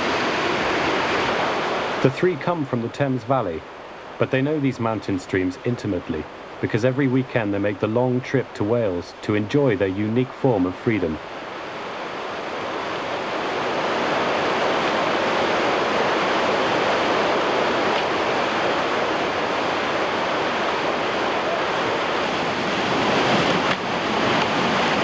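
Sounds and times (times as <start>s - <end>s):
whitewater rushing: 0.0s - 25.0s.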